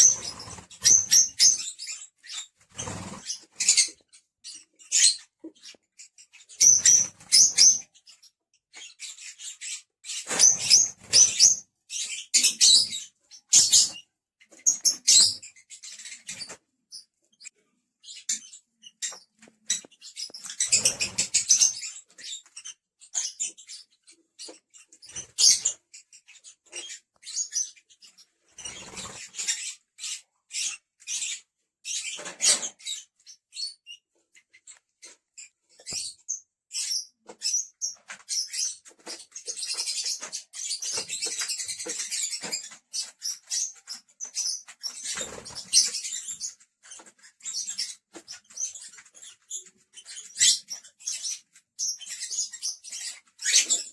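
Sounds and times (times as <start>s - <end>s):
lovebirds chirping: 0.0s - 53.9s.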